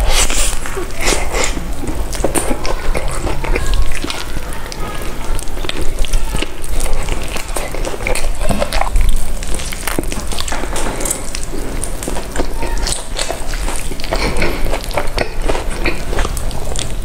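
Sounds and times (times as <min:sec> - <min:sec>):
crisp crackles and clicks: 0:00.0 - 0:17.0
person chewing and biting: 0:00.0 - 0:17.0.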